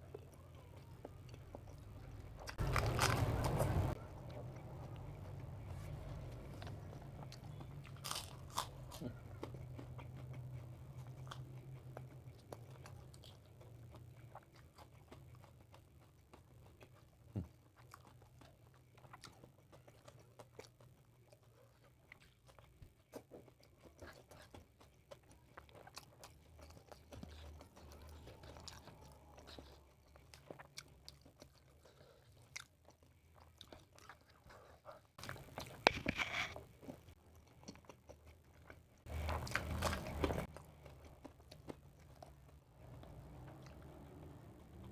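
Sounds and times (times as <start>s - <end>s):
person chewing crunchy food: 0.1s - 44.9s.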